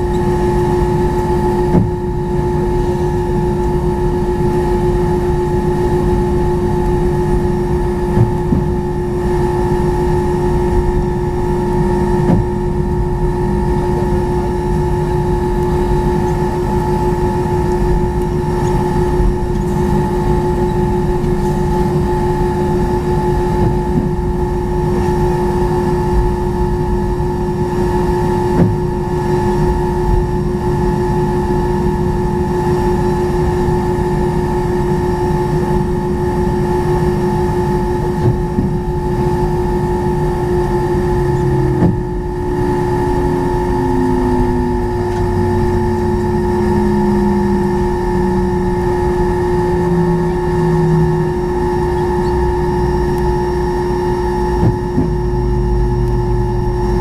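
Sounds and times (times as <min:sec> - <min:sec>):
jet engines idling hum: 0:00.0 - 0:57.0.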